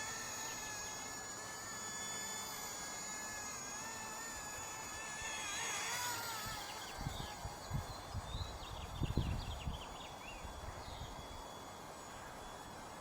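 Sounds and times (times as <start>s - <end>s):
micro helicopter motor whine: 0.0s - 13.0s.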